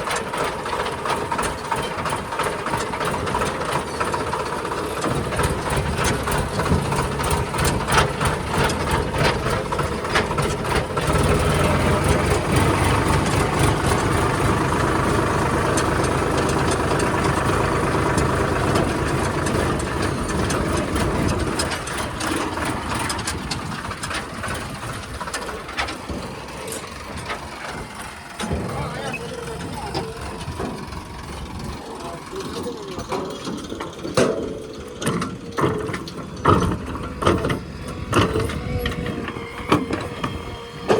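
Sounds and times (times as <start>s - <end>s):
heavy diesel engine running: 0.0s - 40.9s
knocks and clanks: 0.0s - 40.9s.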